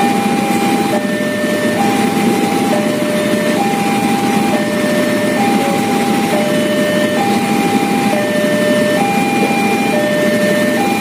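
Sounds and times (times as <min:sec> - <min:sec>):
two-tone level crossing alarm: 0:00.0 - 0:11.0.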